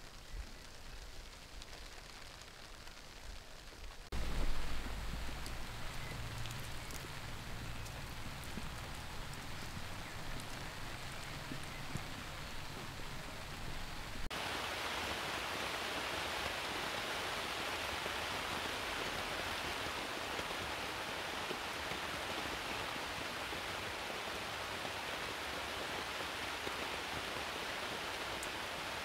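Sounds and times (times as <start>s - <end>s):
heavy rain on a tarp: 0.0s - 29.0s.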